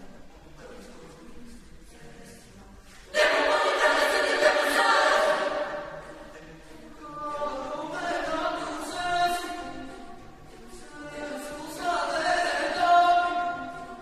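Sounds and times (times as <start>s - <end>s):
mixed choir singing a cappella: 0.0s - 14.0s.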